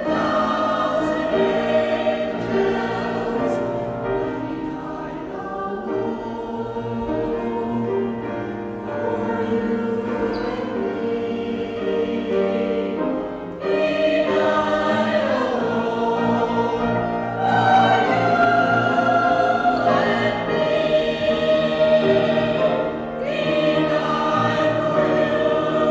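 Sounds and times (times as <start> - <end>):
mixed choir singing: 0.0 - 25.9.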